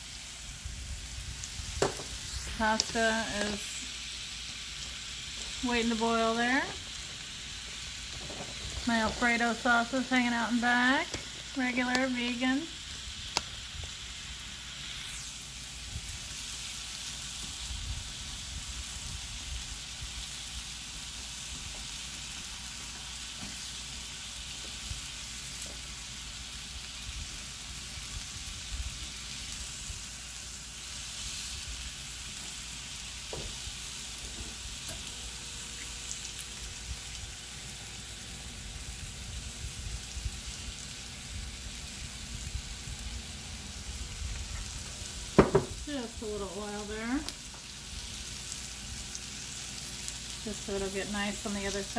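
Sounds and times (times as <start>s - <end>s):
meat sizzling in a grill pan: 0.0s - 51.9s.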